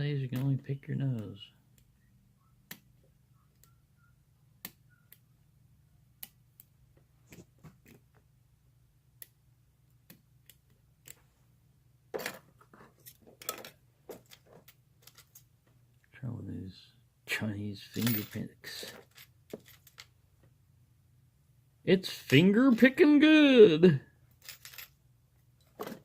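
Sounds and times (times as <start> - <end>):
low steady hum: 0.0 - 23.2.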